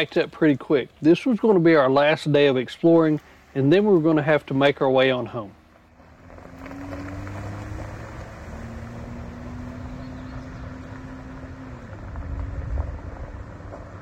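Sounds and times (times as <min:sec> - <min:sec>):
road noise: 0:00.0 - 0:14.0
vehicle engine rumbling: 0:00.0 - 0:14.0.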